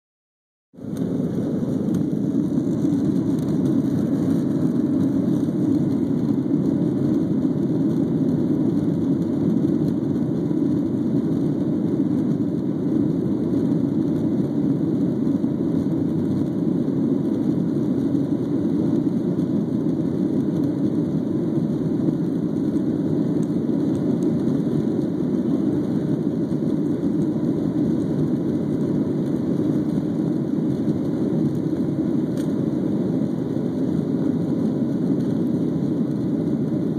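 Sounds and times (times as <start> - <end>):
jet engine cabin rumble: 0.8 - 36.9.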